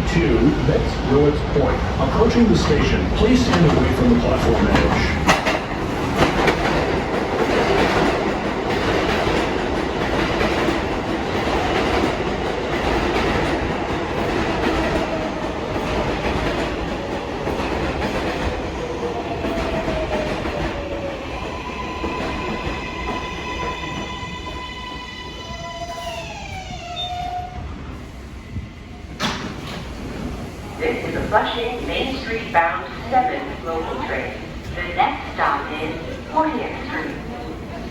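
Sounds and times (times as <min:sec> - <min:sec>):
train wheels rumbling and clattering: 0:00.0 - 0:37.9.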